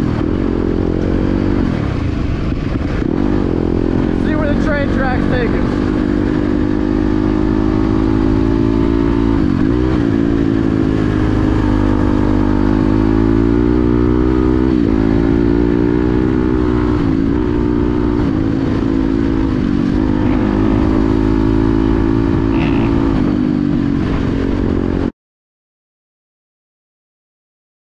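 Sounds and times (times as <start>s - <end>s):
dirt bike engine running: 0.0s - 25.1s.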